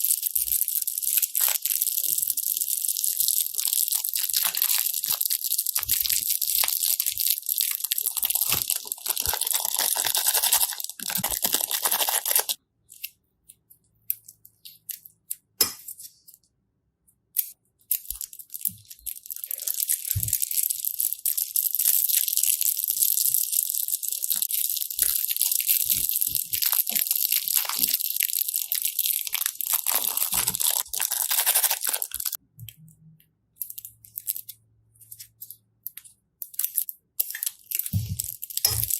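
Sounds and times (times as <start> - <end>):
crunchy slime crackling: 0.0 - 12.6, 17.4 - 32.4, 33.6 - 38.9.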